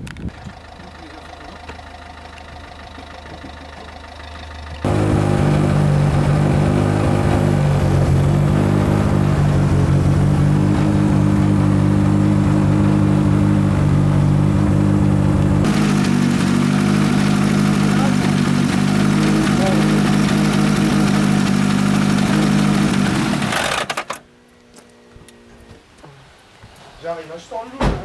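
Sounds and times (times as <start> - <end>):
rally car engine idling: 0.0 - 23.9.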